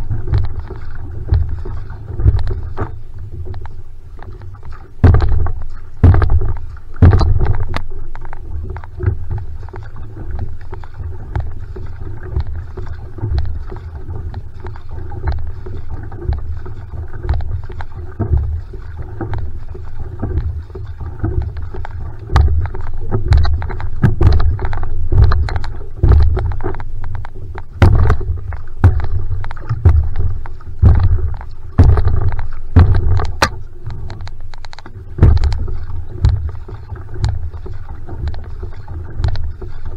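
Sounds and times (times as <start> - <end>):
paddle strokes splashing: 0.0 - 39.9
water rushing along hull: 0.0 - 39.9.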